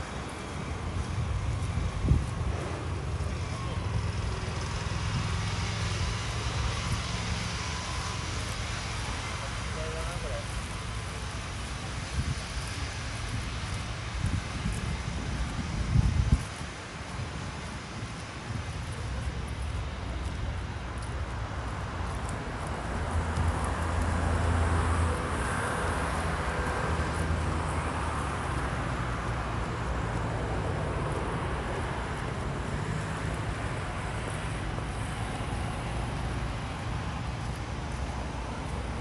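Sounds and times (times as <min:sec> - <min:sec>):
road traffic: 0:00.0 - 0:39.0.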